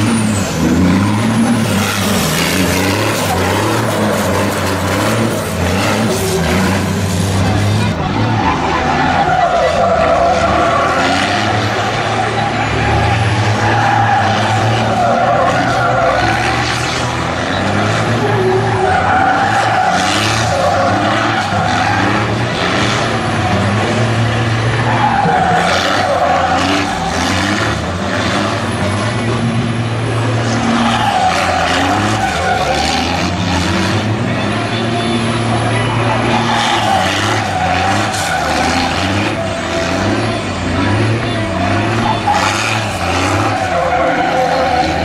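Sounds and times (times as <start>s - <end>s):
heavy truck engines revving: 0.0s - 45.0s
tyres skidding: 0.0s - 45.0s.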